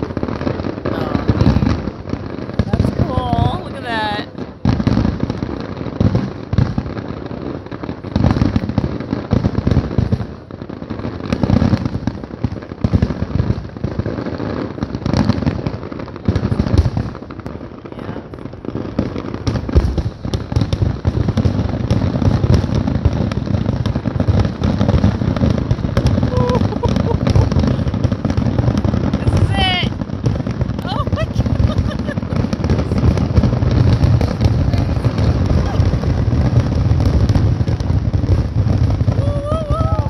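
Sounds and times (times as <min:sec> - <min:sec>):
fireworks booms and bangs: 0:00.0 - 0:40.0.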